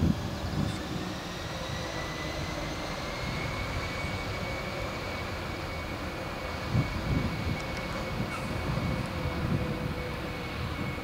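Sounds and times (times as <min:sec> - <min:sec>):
jet engines roaring: 0:00.0 - 0:11.0
wind buffeting microphone: 0:00.0 - 0:11.0.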